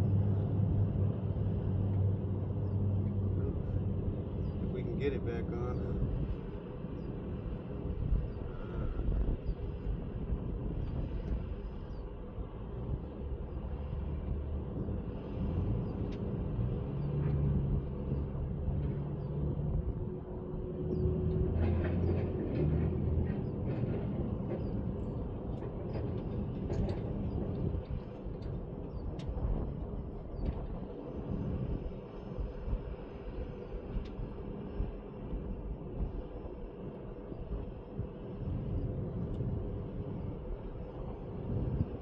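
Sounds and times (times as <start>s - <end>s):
low mechanical rumble: 0.0s - 42.0s.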